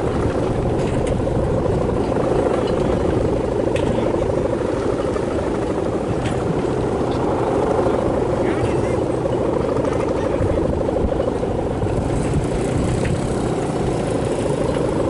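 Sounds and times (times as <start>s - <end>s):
kite hummer bow droning: 0.0s - 15.0s.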